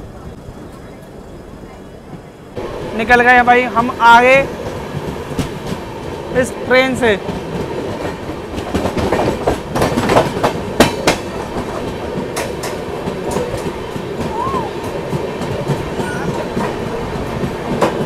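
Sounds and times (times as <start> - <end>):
train rumbling: 0.0 - 18.0
wheels clattering over rail joints: 3.4 - 18.0.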